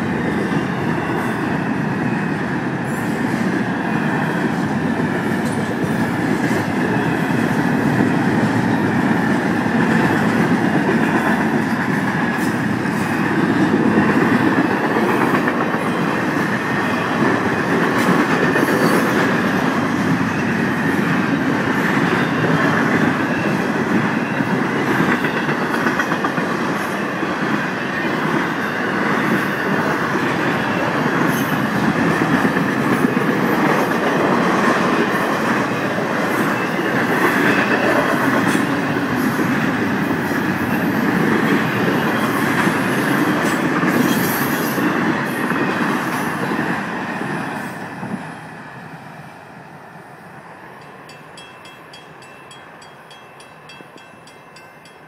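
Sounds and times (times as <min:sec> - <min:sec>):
steel wheels rumbling on rails: 0:00.0 - 0:49.4.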